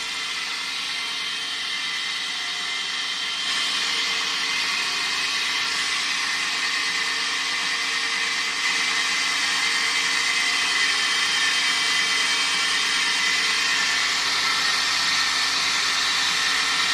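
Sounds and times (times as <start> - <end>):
belt sander running: 0.0 - 16.9.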